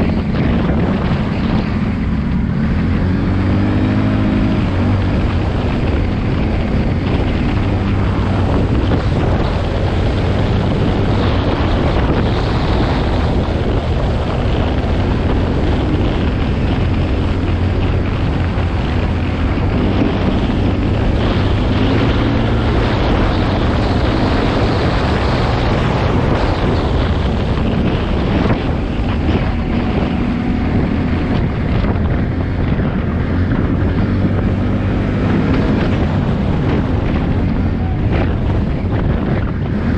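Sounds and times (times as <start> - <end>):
engine running: 0.0 - 39.9
wind noise on microphone: 0.0 - 39.9.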